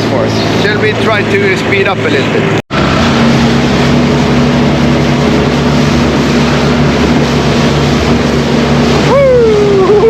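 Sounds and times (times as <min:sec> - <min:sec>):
motorboat engine humming: 0:00.0 - 0:10.0
wind and water rushing: 0:00.0 - 0:10.0.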